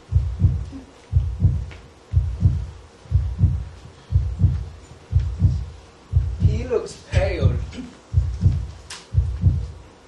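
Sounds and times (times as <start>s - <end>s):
heartbeat thumps: 0.0s - 9.8s.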